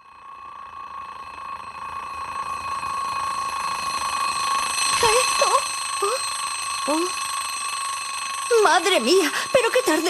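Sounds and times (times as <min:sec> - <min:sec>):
twin-bell alarm clock ringing: 0:00.0 - 0:10.0.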